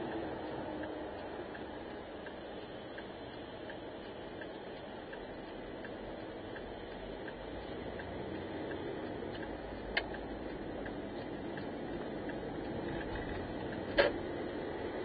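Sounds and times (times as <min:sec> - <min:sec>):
car engine and road noise: 0:00.0 - 0:15.0
turn signal ticking: 0:00.0 - 0:15.0.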